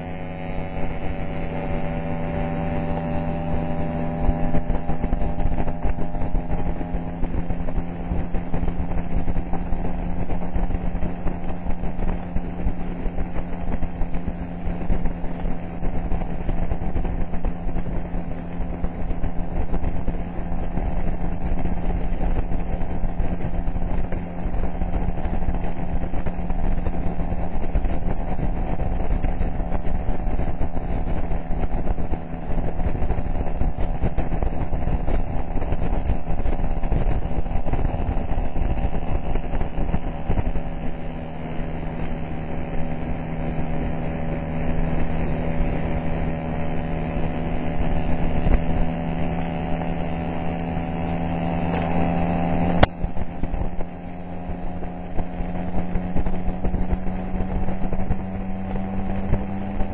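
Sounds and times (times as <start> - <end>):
scooter engine running: 0.0 - 59.9
wind rumble on microphone: 0.0 - 59.9.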